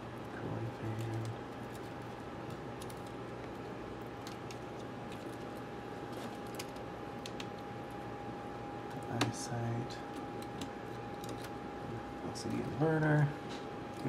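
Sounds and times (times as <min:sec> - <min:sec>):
steady faint hum: 0:00.0 - 0:14.0.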